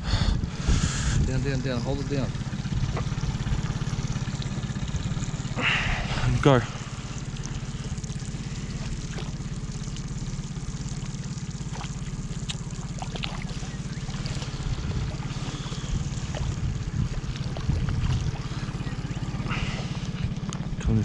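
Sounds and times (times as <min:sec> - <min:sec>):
outboard motor humming: 0:00.0 - 0:21.0
fish splashing at surface: 0:02.4 - 0:20.2.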